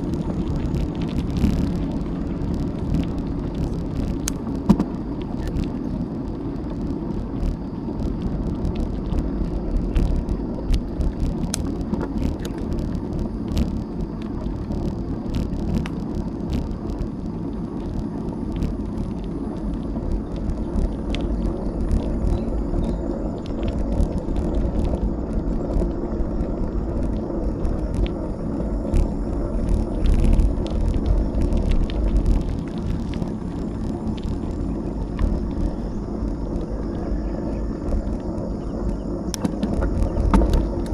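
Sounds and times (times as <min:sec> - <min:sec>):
wind and rolling tyres: 0:00.0 - 0:40.9.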